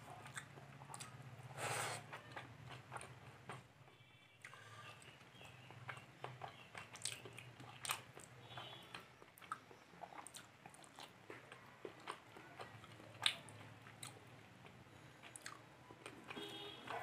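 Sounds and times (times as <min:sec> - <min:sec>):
chewing and mouth smacks: 0:00.0 - 0:01.3, 0:04.4 - 0:17.0.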